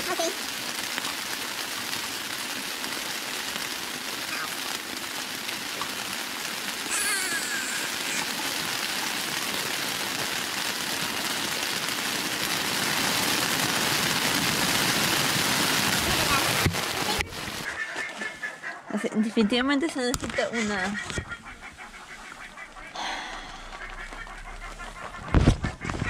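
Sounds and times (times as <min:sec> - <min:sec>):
rain on tent fabric: 0:00.0 - 0:18.3, 0:20.1 - 0:26.0.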